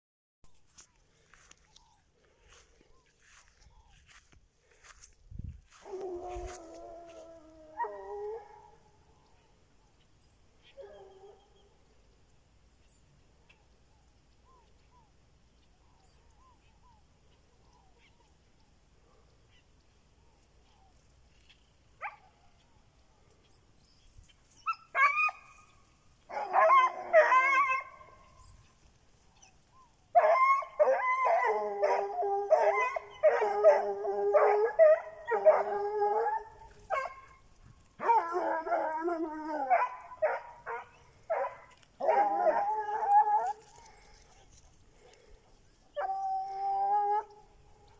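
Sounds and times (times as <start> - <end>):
hunting dogs baying and howling: 0.7 - 12.1, 14.5 - 47.9.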